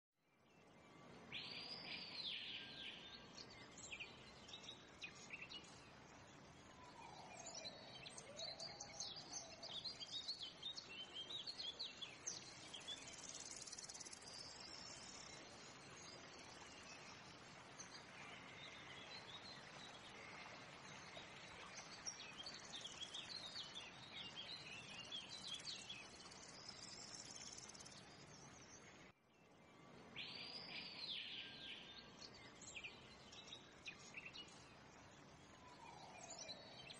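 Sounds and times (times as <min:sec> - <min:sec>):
birds chirping and trilling: 0:00.8 - 0:29.0, 0:29.7 - 0:36.9
steady background hiss: 0:00.9 - 0:36.9.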